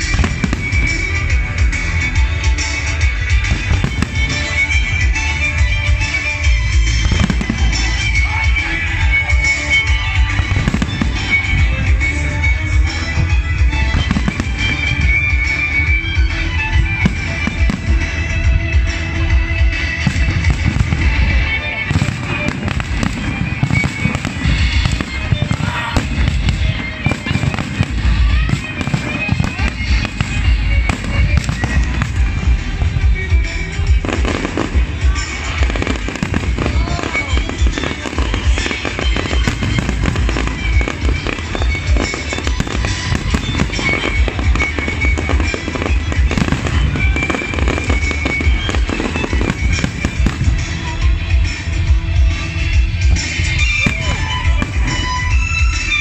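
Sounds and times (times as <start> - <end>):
fireworks booming and crackling: 0.0 - 56.0
music playing: 0.0 - 56.0.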